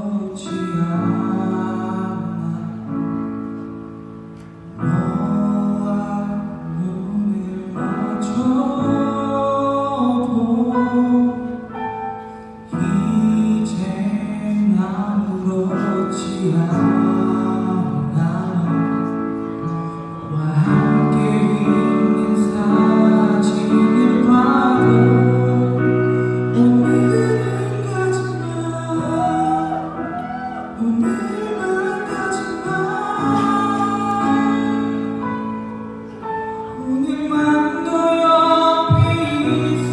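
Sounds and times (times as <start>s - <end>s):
man singing: 0.0s - 3.4s, 4.8s - 39.9s.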